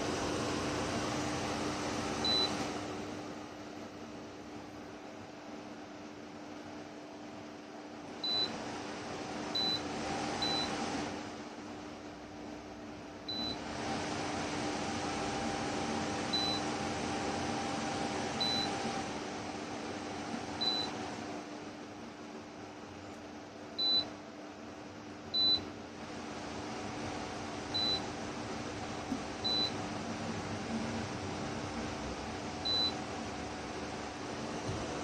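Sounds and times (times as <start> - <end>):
electric fan running: 0.0 - 35.0.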